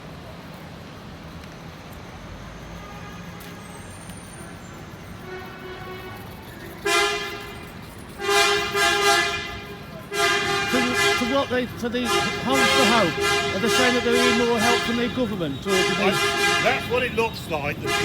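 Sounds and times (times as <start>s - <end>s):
coach horns honking: 2.6s - 18.0s.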